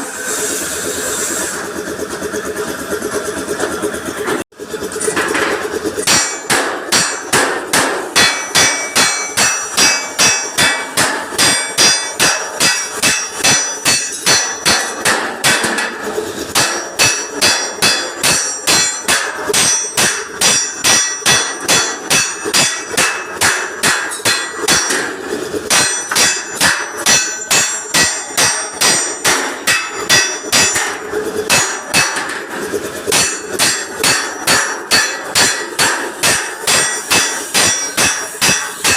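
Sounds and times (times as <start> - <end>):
hammer on metal bumper: 5.0 - 38.9.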